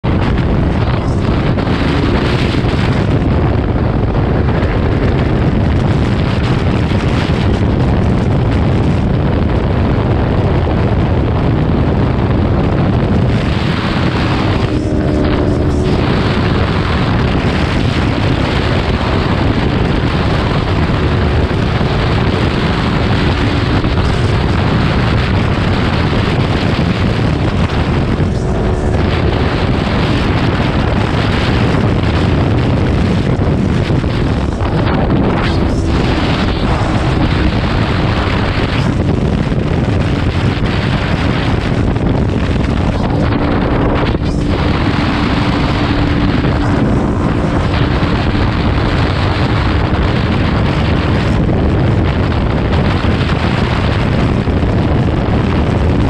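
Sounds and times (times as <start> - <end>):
faint motorcycle engine hum: 0.0 - 56.0
wind buffeting microphone: 0.0 - 56.0.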